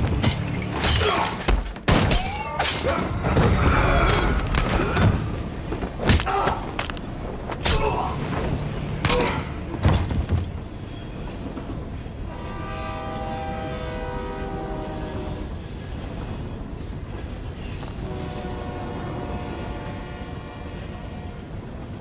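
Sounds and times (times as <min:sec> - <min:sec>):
train rumbling on rails: 0:00.0 - 0:00.9, 0:02.9 - 0:22.0.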